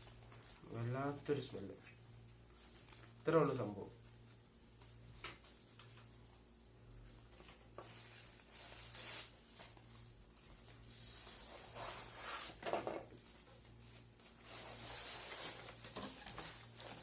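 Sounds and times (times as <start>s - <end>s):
foil crinkling and rustling: 0.0s - 1.6s, 2.6s - 17.0s.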